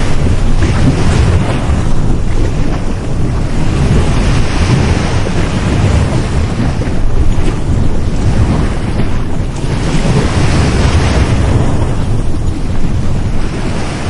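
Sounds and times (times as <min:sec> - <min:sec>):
sea waves breaking on beach: 0:00.0 - 0:14.0
wind buffeting microphone: 0:00.0 - 0:14.0.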